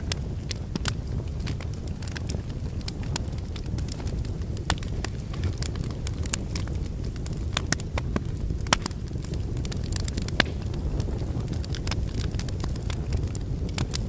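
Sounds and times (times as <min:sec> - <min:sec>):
fire flame rumble: 0:00.0 - 0:14.0
logs crackling and popping: 0:00.0 - 0:14.0.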